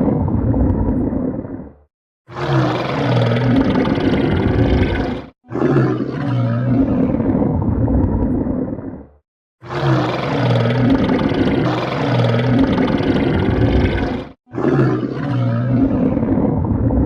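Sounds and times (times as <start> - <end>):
stomach growling: 2.3 - 9.1, 9.7 - 17.0.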